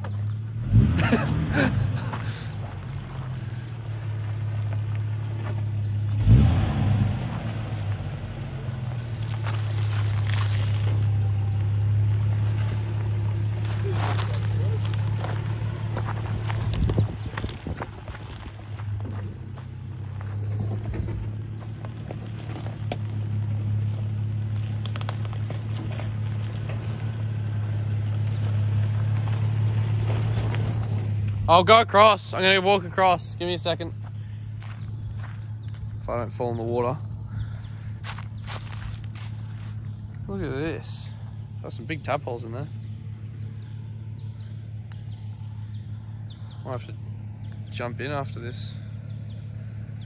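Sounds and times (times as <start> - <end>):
engine running low and steady: 0.0 - 50.0
tyres crackling over gravel: 0.0 - 50.0.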